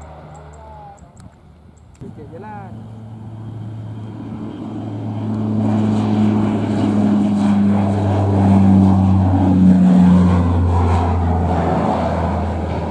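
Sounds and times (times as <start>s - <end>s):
turboprop aircraft climbing: 0.0s - 12.9s.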